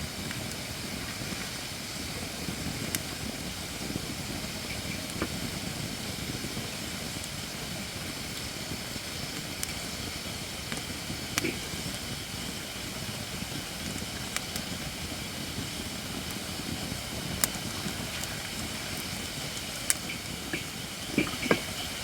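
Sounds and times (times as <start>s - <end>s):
campfire rumble and hiss: 0.0s - 22.0s
fire crackles: 0.0s - 22.0s.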